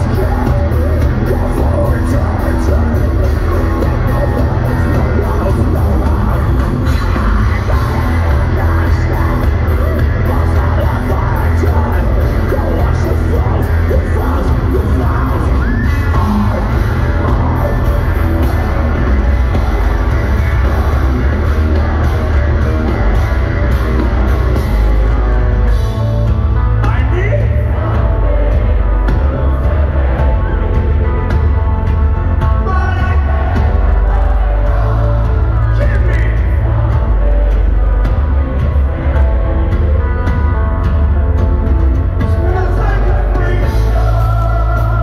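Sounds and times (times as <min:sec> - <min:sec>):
harsh sung vocal: 0:00.0 - 0:25.4, 0:26.6 - 0:40.3, 0:42.2 - 0:45.0
heavy metal band playing live: 0:00.0 - 0:45.0.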